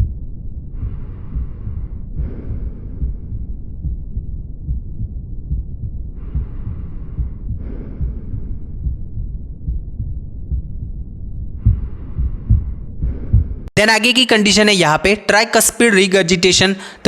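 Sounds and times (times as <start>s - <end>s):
heartbeat thumps: 0.0s - 13.7s
low rumbling heart murmur: 0.0s - 13.7s.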